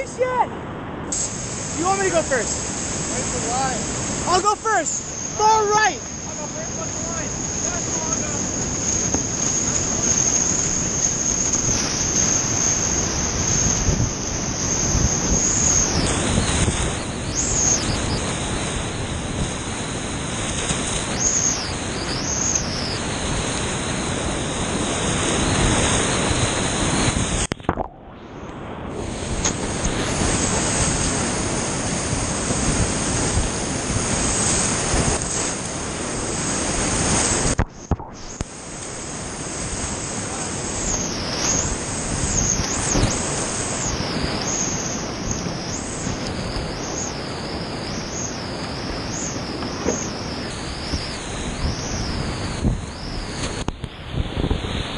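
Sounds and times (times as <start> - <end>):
whitewater rapids rushing: 1.2 - 27.5, 28.9 - 54.9.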